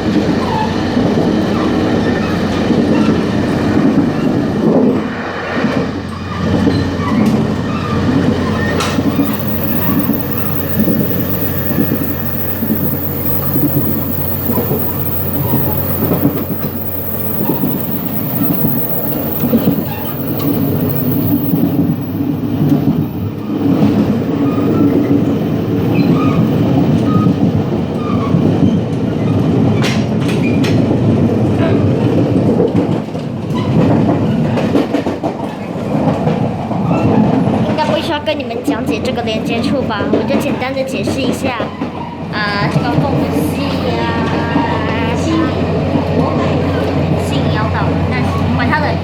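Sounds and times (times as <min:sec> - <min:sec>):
train rumble and rattle: 0:00.0 - 0:49.0.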